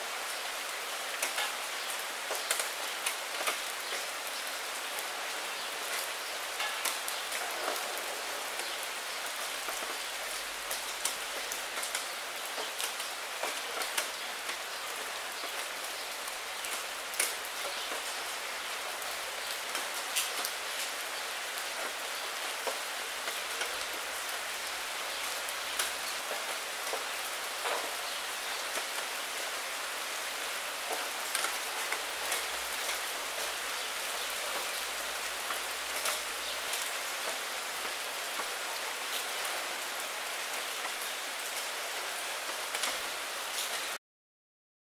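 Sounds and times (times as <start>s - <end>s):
rain hissing on a puddle: 0.0s - 44.0s.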